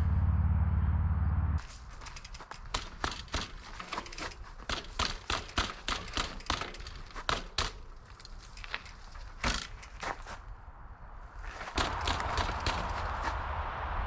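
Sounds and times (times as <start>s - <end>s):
mountain bike clattering: 1.6s - 13.6s.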